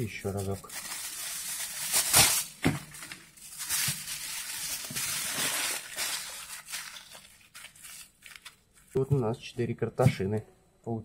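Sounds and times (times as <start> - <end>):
aluminium foil crinkling: 0.0 - 9.0
foil crackles: 0.1 - 9.0.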